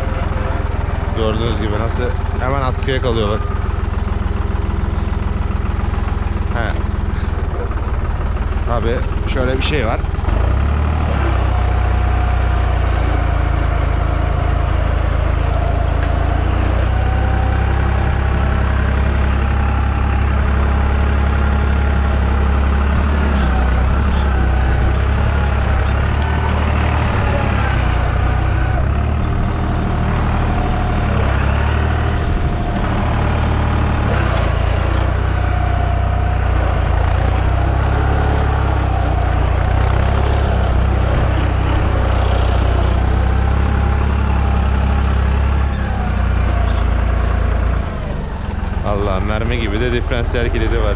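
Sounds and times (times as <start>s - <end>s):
tractor engine drone: 0.0s - 50.9s.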